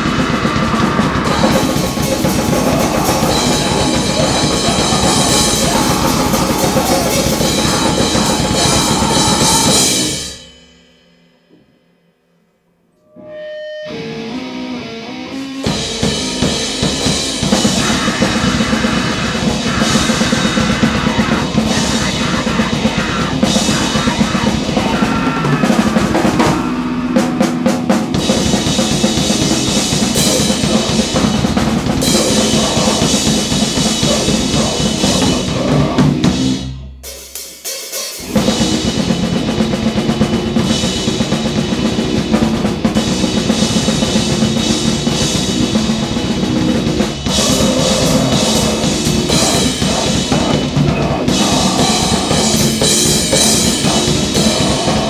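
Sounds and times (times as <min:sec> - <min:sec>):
pounding drums and snare: 0:00.0 - 0:10.1, 0:15.8 - 0:55.0
distorted noise band music: 0:00.0 - 0:10.3, 0:13.1 - 0:37.0, 0:38.2 - 0:55.0.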